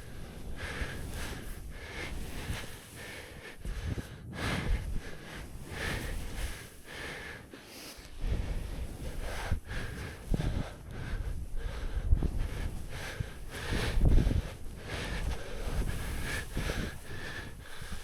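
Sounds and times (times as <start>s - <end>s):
heavy breathing: 0.0s - 18.0s.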